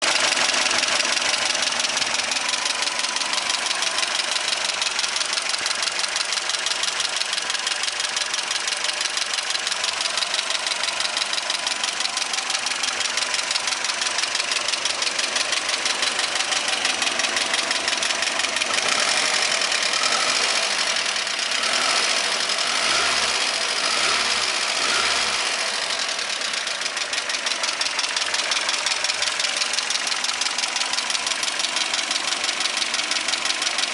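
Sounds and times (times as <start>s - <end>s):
petrol engine knocking: 0.0s - 22.6s, 25.6s - 33.9s.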